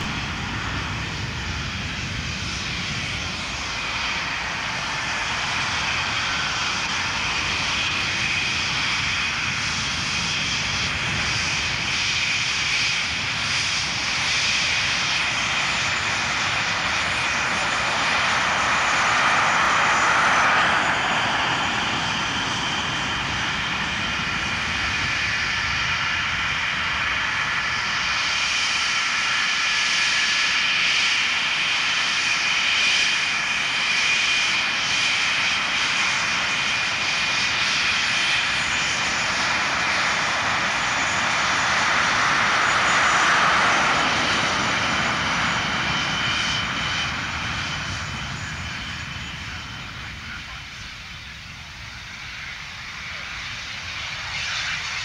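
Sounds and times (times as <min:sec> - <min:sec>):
jet fighters taxiing: 0:00.0 - 0:55.0.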